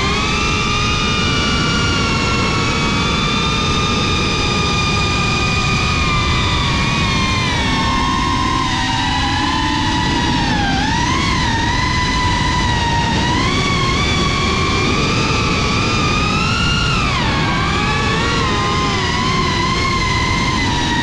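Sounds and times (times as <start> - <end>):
drone propellers whining: 0.0 - 21.0
rushing noise: 0.0 - 21.0.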